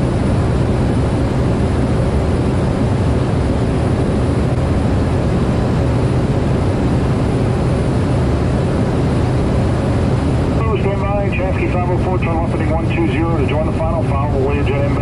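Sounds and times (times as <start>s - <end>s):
turboprop engine drone in flight: 0.0s - 15.0s.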